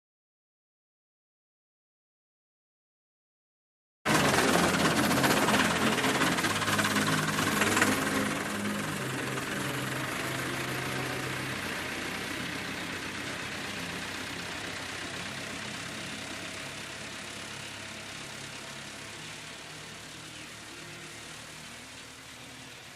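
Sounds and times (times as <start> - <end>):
tractor engine running: 4.1 - 22.9.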